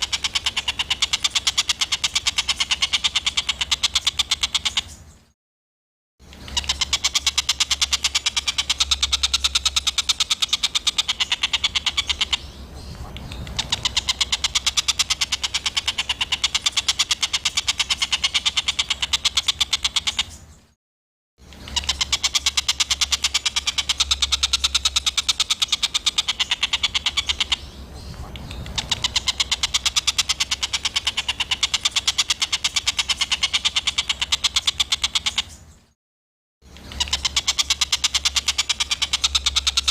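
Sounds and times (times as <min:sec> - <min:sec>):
songbird rattling song: 0:00.0 - 0:05.4, 0:06.2 - 0:20.8, 0:21.4 - 0:36.0, 0:36.6 - 0:39.9.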